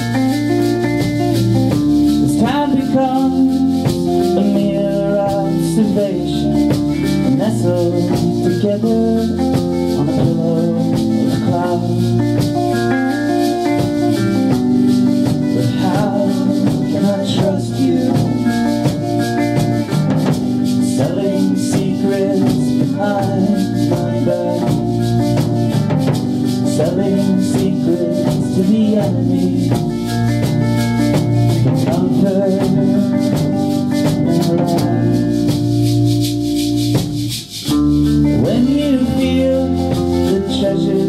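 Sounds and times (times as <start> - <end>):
drum kit with cymbals: 0.0 - 41.0
electric bass: 0.0 - 41.0
electric guitar: 0.0 - 41.0
man singing: 2.0 - 30.4, 31.1 - 35.7, 38.1 - 41.0.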